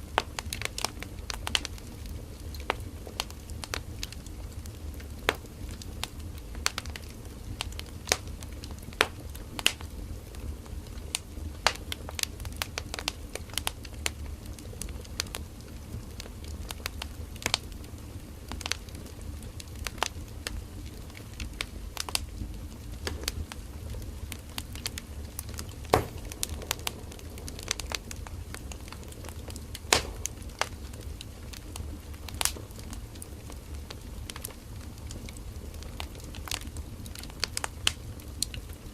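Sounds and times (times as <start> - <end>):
low rumble of flames: 0.0 - 38.9
wood crackling and popping: 0.0 - 38.9.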